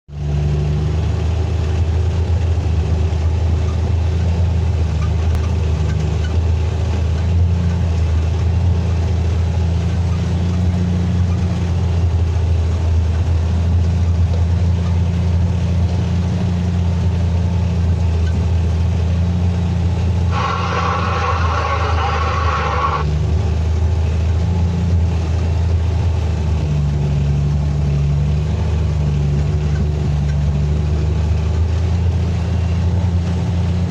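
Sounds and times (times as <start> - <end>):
diesel truck engine droning: 0.1 - 33.9.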